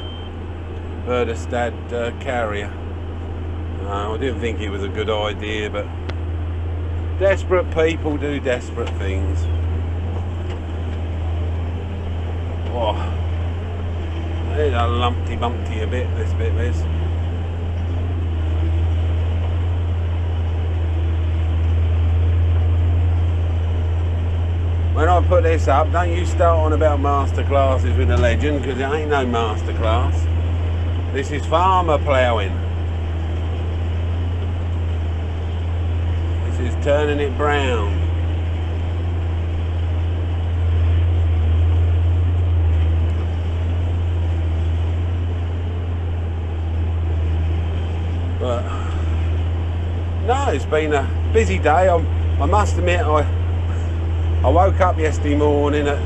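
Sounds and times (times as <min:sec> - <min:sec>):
tractor engine drone: 0:00.0 - 0:56.0.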